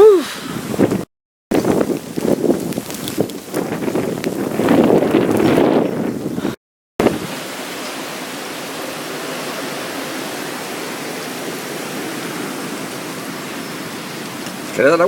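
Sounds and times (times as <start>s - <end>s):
blizzard wind hissing: 1.6s - 14.9s.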